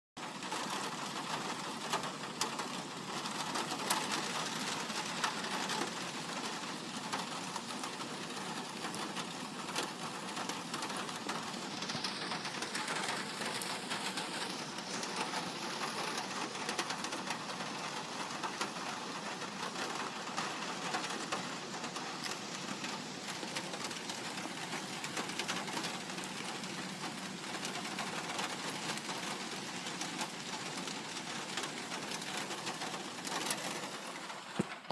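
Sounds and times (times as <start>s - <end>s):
rain on a metal roof: 0.2s - 34.9s.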